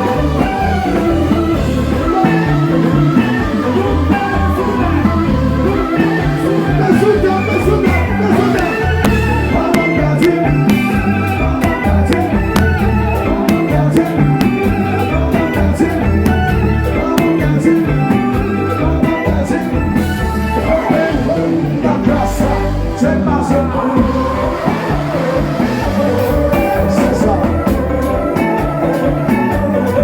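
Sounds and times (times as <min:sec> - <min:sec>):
loud music with singing and beat: 0:00.0 - 0:30.0.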